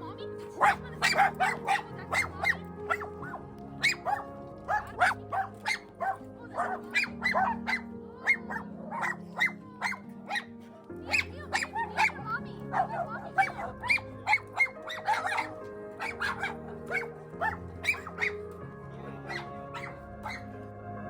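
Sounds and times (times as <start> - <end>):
background music: 0.0 - 21.0
dog barking: 0.5 - 18.6, 19.2 - 20.5.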